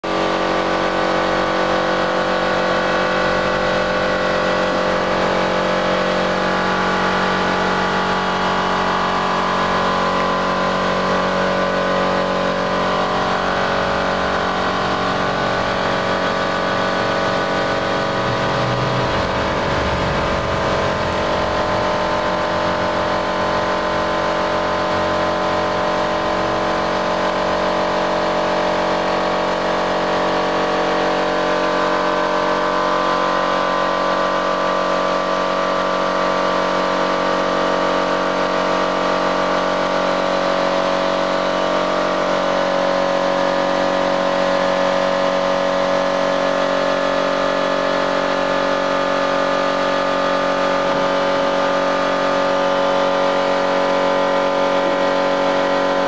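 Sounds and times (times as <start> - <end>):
steady mechanical drone: 0.0 - 56.0.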